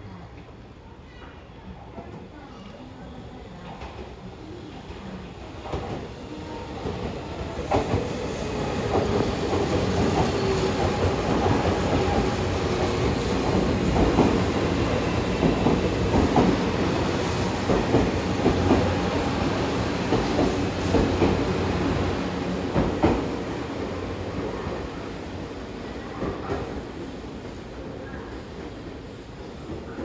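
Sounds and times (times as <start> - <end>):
train running through station: 0.0 - 30.0.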